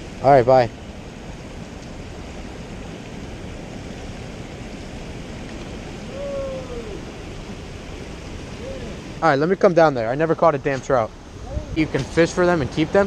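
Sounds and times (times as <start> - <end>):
rushing stream water: 0.0 - 13.0.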